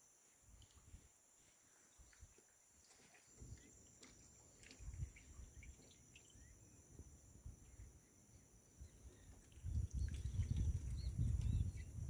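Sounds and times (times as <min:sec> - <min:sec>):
faint bird chirps: 0:00.5 - 0:12.0.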